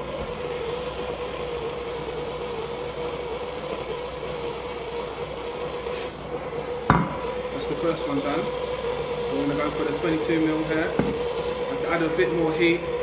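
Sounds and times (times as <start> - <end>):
blowtorch flame burning: 0.0 - 13.0.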